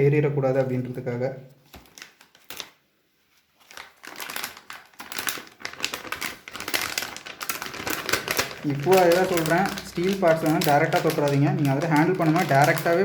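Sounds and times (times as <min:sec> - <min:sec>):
packaging crinkling and rustling: 0:01.6 - 0:13.0.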